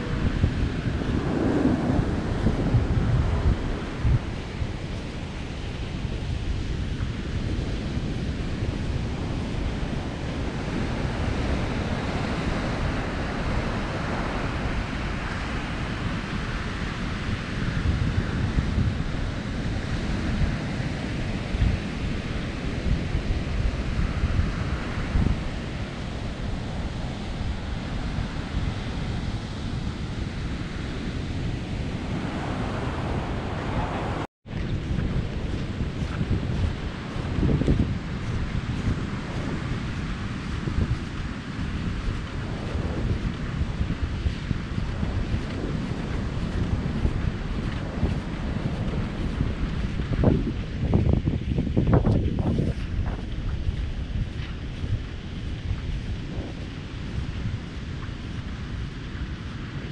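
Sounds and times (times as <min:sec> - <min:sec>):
ocean surf washing on shore: 0:00.0 - 0:59.9
wind buffeting microphone: 0:00.0 - 0:59.9.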